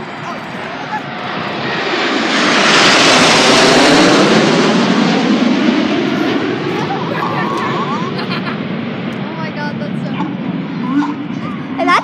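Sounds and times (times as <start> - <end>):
jets passing low overhead: 0.0 - 12.0.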